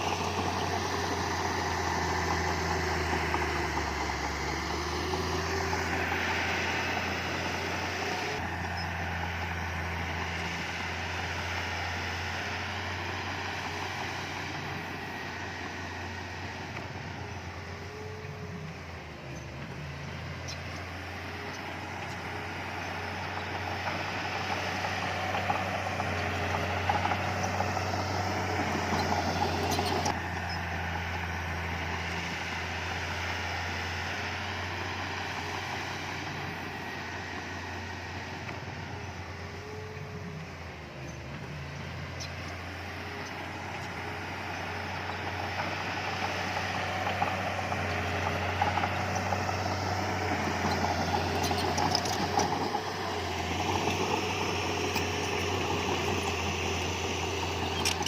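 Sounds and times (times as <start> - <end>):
heavy diesel machinery engine: 0.0 - 58.0.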